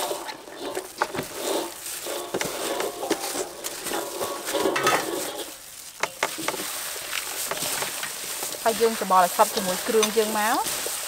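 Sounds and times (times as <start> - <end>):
shredded cabbage rustling into bowl: 0.0 - 11.0.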